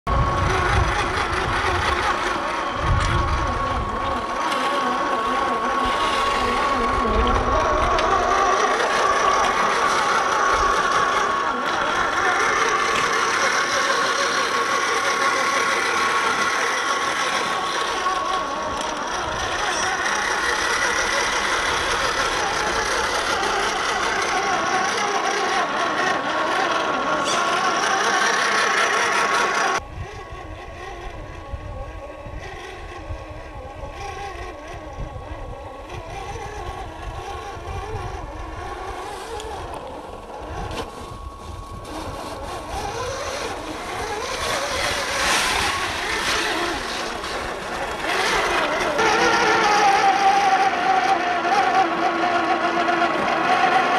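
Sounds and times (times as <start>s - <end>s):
toy car electric motor whining: 0.1s - 53.9s.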